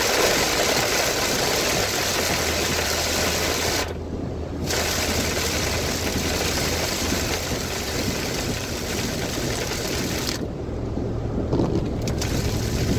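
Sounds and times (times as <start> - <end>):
tyres hissing on wet road: 0.0 - 4.0, 4.6 - 10.4, 12.1 - 12.9
heavy rain on a car: 0.0 - 12.9
low road rumble: 0.0 - 12.9.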